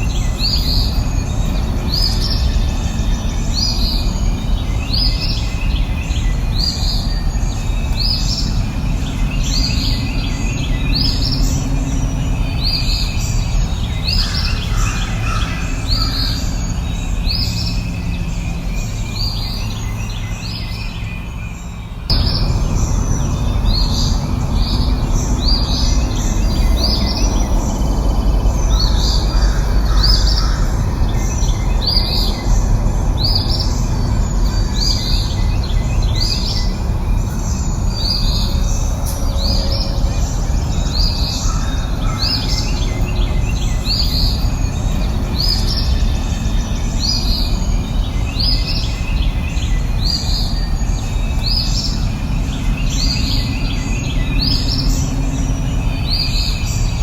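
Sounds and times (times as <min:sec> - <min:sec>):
birds calling: 0:00.0 - 0:57.0
low rushing background: 0:00.0 - 0:57.0.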